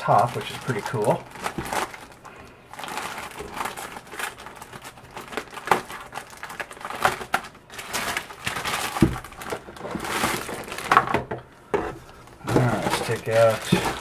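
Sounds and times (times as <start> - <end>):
plastic bag crinkling: 0.0 - 11.3, 11.9 - 14.0.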